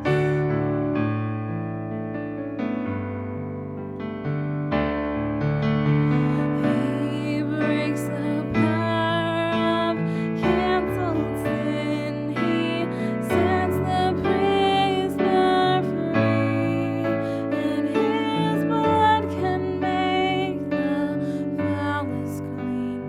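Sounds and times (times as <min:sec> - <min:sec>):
gentle keyboard music: 0:00.0 - 0:23.0.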